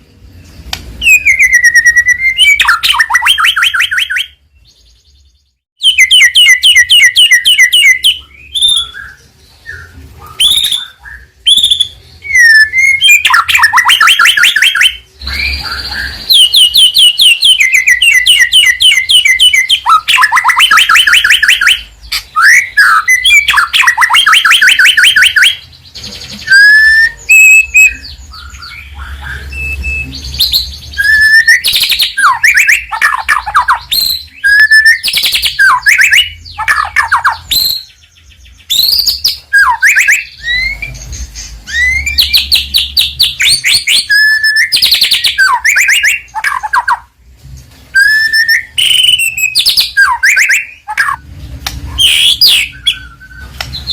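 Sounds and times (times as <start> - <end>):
songbird singing trills and whistles: 0.0 - 47.2, 47.9 - 53.9.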